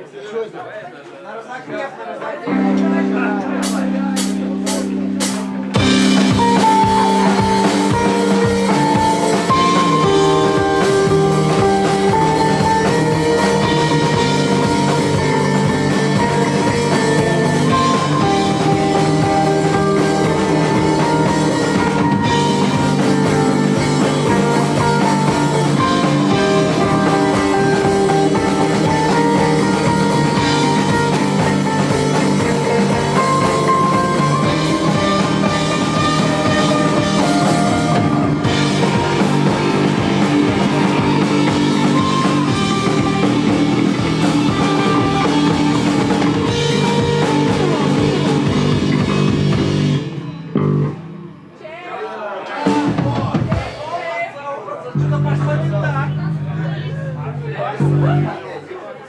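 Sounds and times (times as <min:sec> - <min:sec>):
rock band playing live: 0:02.5 - 0:51.6, 0:52.6 - 0:58.4.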